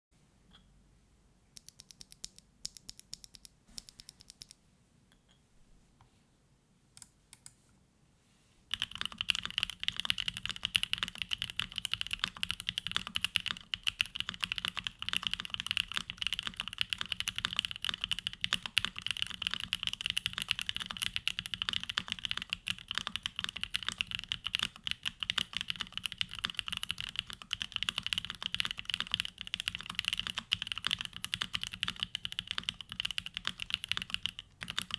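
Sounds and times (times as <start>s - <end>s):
keyboard typing: 1.6s - 4.6s, 8.7s - 34.9s.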